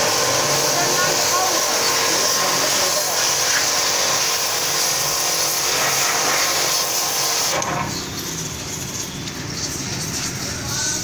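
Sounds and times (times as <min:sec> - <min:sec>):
pump hum: 0:00.0 - 0:10.6
water jet spraying: 0:00.0 - 0:11.0.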